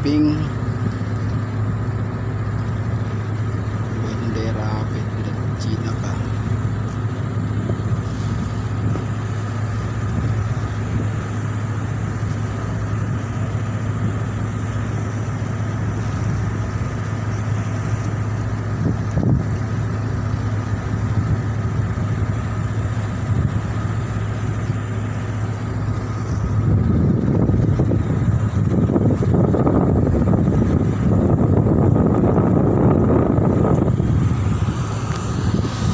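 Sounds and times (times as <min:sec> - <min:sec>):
boat engine droning: 0:00.0 - 0:35.9
wind on microphone: 0:00.0 - 0:35.9.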